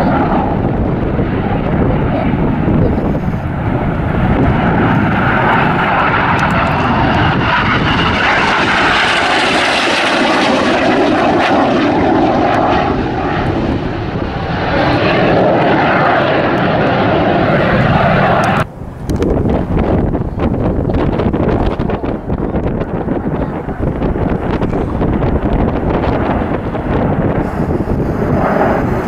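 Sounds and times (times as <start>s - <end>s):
jet engine roar overhead: 0.0s - 29.0s.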